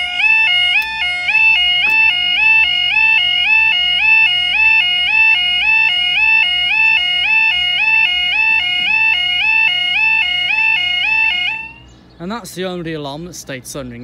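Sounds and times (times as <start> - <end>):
two-tone warbling crossing alarm: 0.0 - 12.0.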